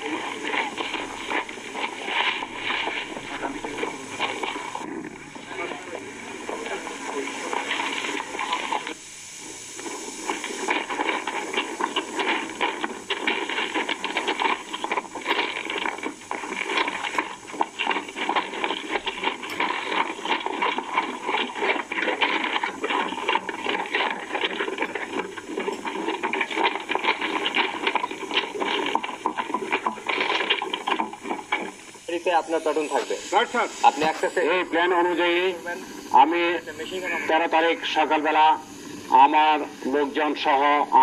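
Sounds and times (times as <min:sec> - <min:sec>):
footsteps on gravel: 0:00.0 - 0:09.0, 0:09.8 - 0:35.4.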